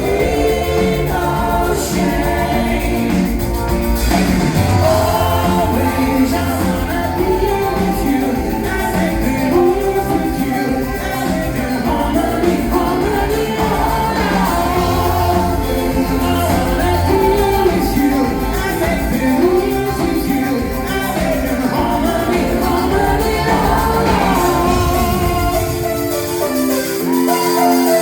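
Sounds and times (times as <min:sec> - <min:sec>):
live synth-pop band: 0:00.0 - 0:28.0
person singing: 0:00.0 - 0:28.0.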